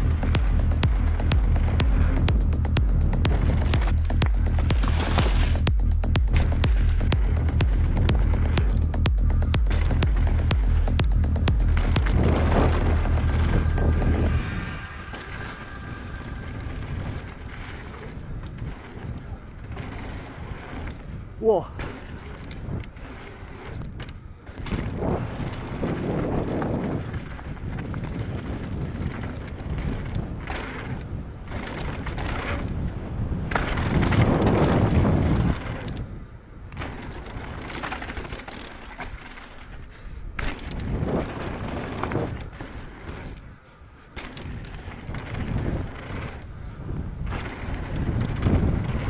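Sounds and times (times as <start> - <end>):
bike knocking over bumps: 0.0 - 14.3, 16.2 - 36.0, 36.7 - 43.4, 44.1 - 46.6, 47.2 - 49.0
tyres rumbling over loose stones: 0.0 - 36.0, 36.7 - 43.4, 44.3 - 49.0
wind rushing over microphone: 0.0 - 49.0.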